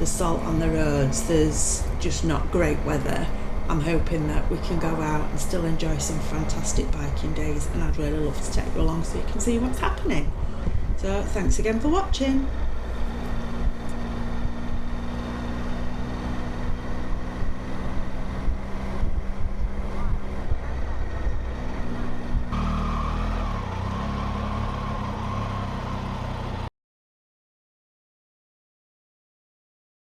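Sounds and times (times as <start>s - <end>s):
motorcycle engine running: 0.0s - 26.7s.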